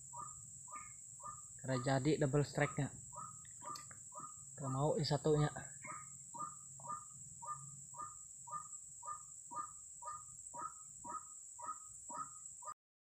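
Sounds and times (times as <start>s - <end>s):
bird calling: 0.0s - 12.8s.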